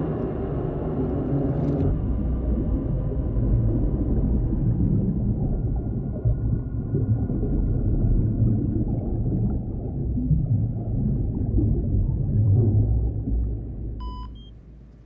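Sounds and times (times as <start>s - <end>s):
gurgling water: 0.0s - 14.3s
underwater low rumble: 0.0s - 15.0s.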